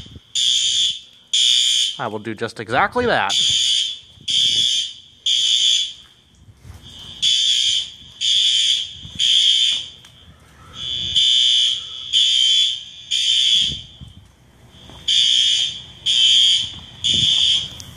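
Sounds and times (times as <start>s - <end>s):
fire alarm horn blasts: 0.0s - 17.9s.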